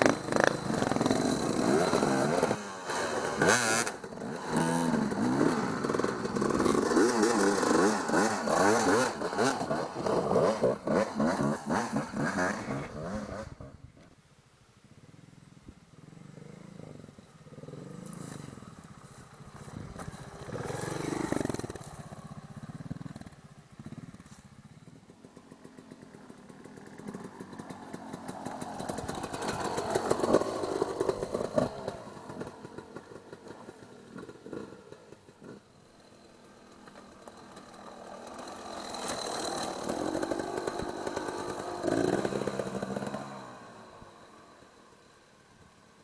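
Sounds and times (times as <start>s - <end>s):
dirt bike engines revving: 0.0s - 14.0s, 15.1s - 45.4s.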